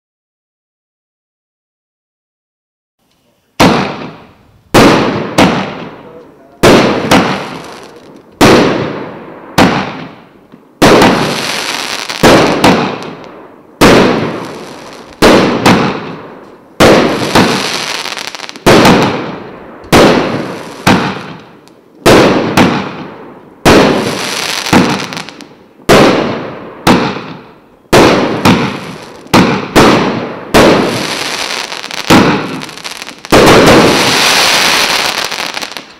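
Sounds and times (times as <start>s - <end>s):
fireworks crackle: 3.0s - 26.3s, 26.9s - 35.9s
fireworks bangs with hissing tails: 3.0s - 35.9s.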